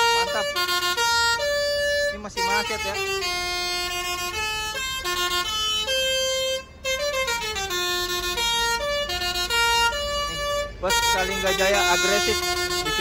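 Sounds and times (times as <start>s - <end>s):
multi-tone bus horn tune: 0.0s - 13.0s.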